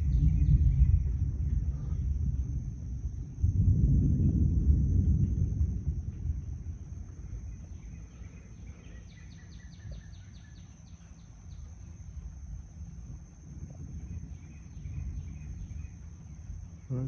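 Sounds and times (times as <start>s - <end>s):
thunder rumbling: 0.0s - 10.0s, 11.6s - 17.0s
low steady rumble: 0.0s - 17.0s.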